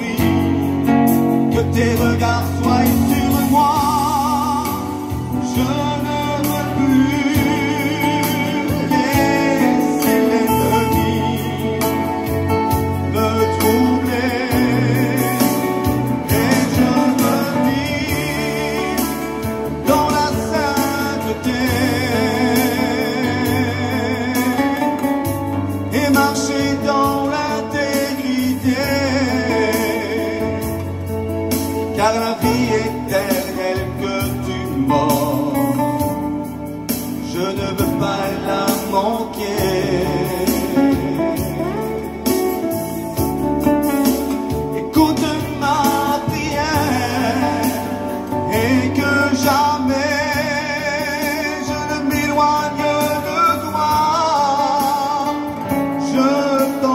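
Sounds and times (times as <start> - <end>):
man singing a hymn: 0.0 - 43.4, 44.0 - 56.9
instrumental accompaniment: 0.0 - 56.9.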